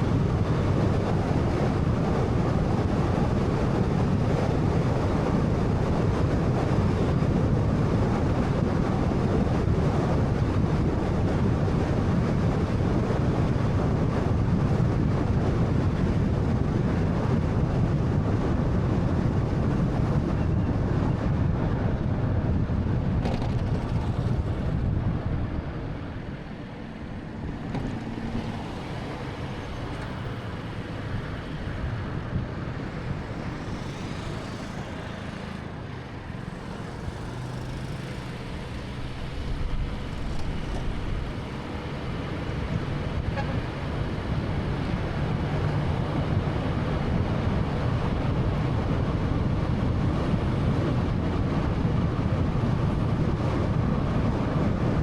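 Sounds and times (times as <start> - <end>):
road and tyre rumble: 0.0 - 55.0.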